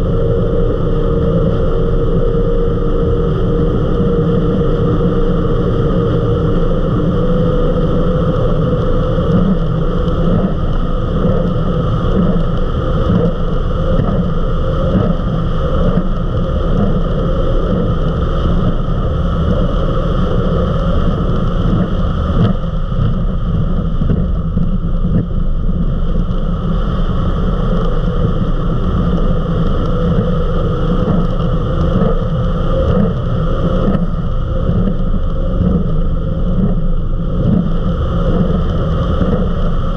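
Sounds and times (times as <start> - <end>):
powerboat engines droning: 0.0 - 39.9
rush of wind and water: 0.0 - 39.9.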